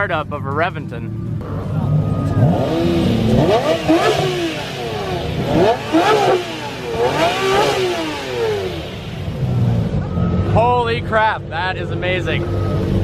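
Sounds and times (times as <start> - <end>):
car engine revving: 1.0 - 13.0.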